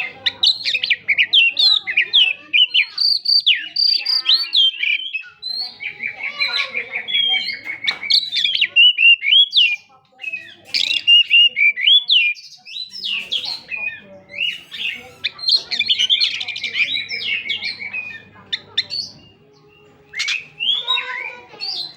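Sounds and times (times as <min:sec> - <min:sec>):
bird singing varied song: 0:00.0 - 0:21.9.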